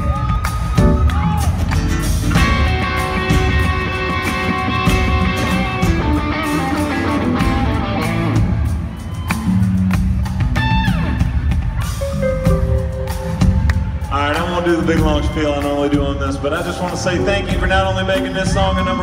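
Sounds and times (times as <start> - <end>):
live country band playing: 0.0 - 19.0.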